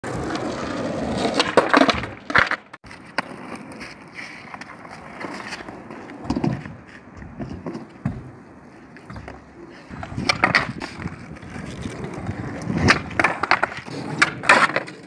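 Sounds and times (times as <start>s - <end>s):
skateboard clacking on ground: 0.0s - 15.0s
skateboard wheels rolling on asphalt: 0.0s - 15.0s.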